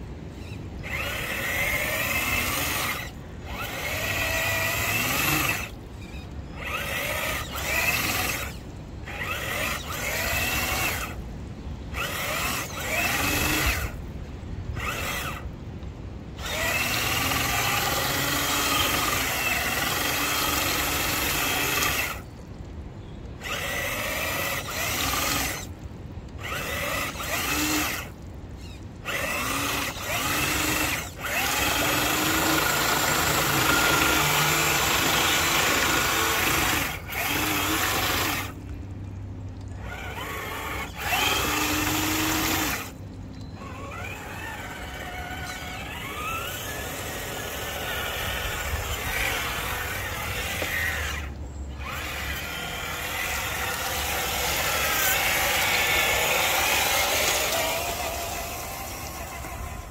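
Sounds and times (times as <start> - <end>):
electric motor whining: 0.3 - 11.2, 11.9 - 14.0, 14.8 - 15.5, 16.4 - 22.3, 23.4 - 25.8, 26.4 - 38.6, 39.7 - 59.9.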